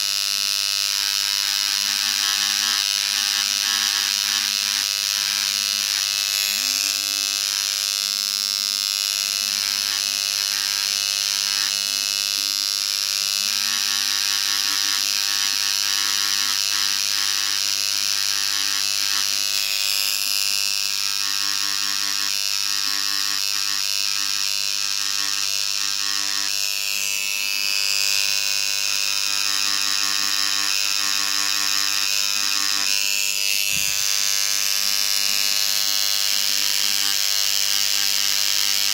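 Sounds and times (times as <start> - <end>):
engraving pen buzzing: 0.0 - 38.9.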